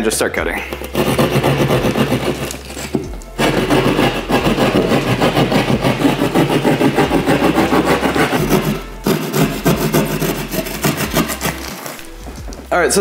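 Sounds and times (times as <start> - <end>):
jab saw sawing gypsum board: 0.7 - 12.1.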